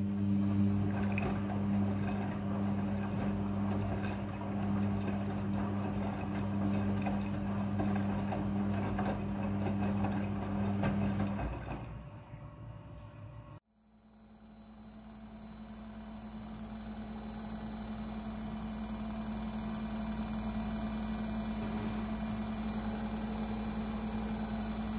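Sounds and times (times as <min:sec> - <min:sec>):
washing machine hum: 0:00.0 - 0:12.8, 0:13.9 - 0:24.9.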